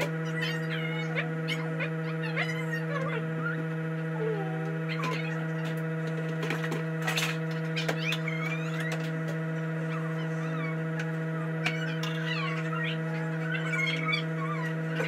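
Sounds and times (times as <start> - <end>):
steady hum with overtones: 0.0 - 15.0.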